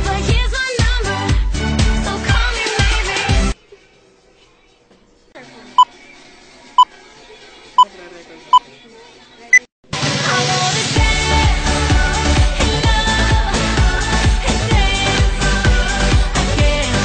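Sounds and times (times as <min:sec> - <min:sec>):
pop song: 0:00.0 - 0:04.8, 0:05.4 - 0:17.0.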